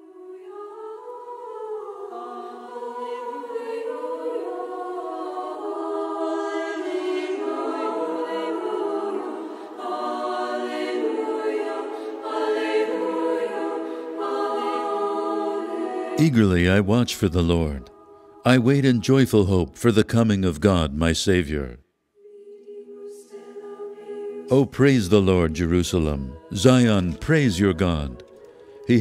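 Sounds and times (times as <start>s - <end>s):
choir singing sacred music: 0.0s - 29.0s.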